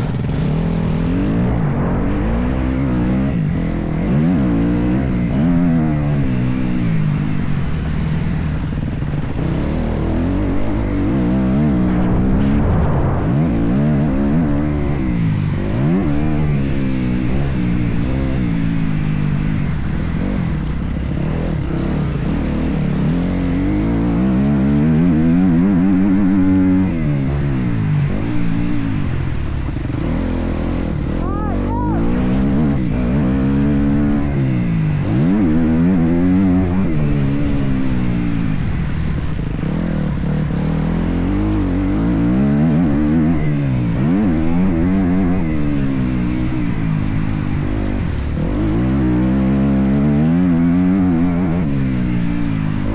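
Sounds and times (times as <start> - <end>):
motocross bike engine revving: 0.0 - 52.9.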